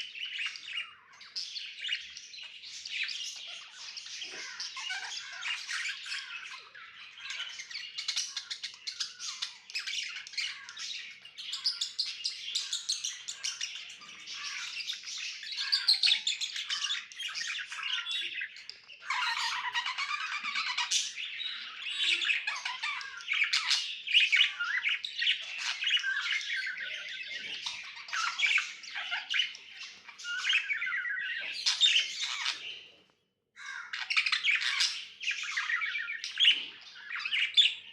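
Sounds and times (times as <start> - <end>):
budgerigars chattering: 0.2 - 32.8, 33.8 - 37.9.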